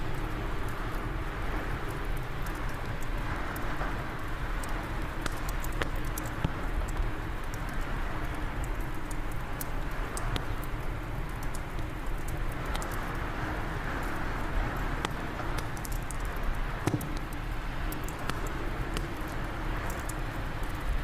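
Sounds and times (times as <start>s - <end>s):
wood fire crackling: 0.0s - 21.0s
fire pops: 1.9s - 13.2s, 13.9s - 21.0s.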